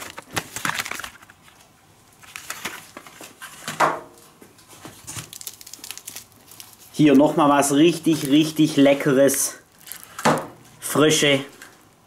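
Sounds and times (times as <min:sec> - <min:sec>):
packaging rustling: 0:00.0 - 0:03.8, 0:04.6 - 0:10.8.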